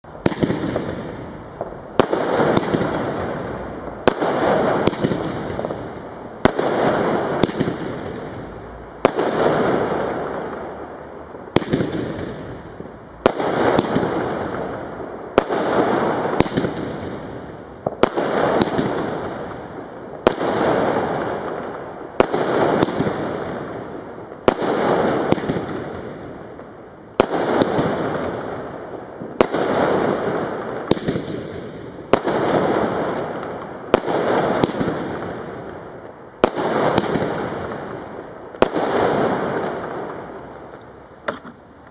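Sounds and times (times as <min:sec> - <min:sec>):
firework bangs: 0:00.0 - 0:41.9.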